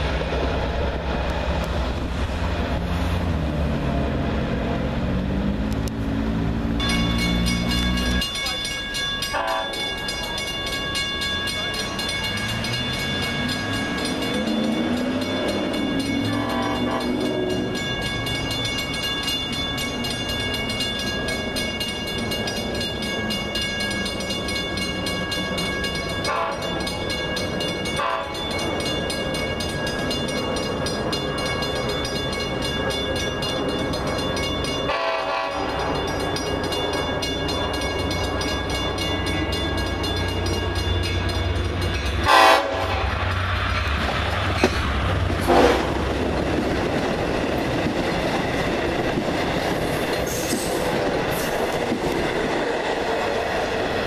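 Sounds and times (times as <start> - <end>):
train running past: 0.0 - 54.0
wheels clanking on rail joints: 0.0 - 54.0.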